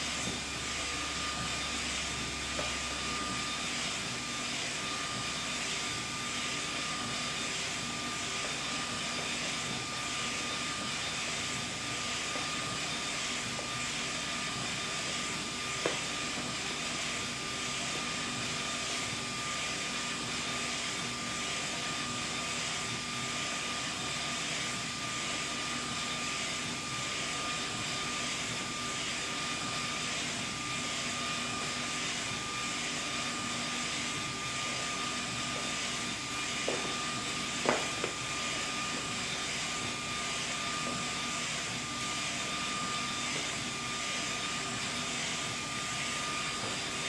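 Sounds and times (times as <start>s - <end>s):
printer whirring and hissing: 0.0s - 47.0s.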